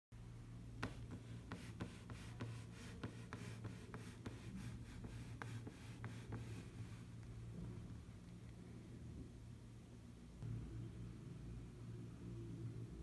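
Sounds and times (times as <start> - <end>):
steady low hum: 0.2 - 13.0.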